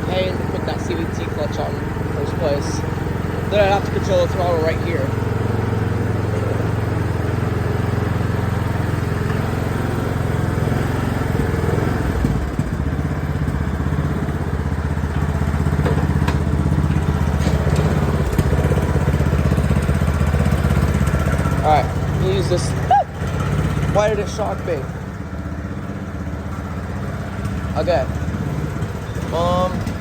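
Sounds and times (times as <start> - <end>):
riding lawnmower engine running: 0.0 - 30.0.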